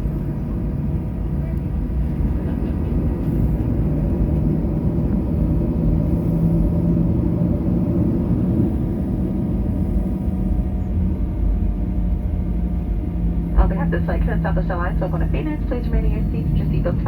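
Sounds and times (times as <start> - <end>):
aircraft cabin rumble: 0.0 - 17.0
low engine hum: 0.0 - 17.0.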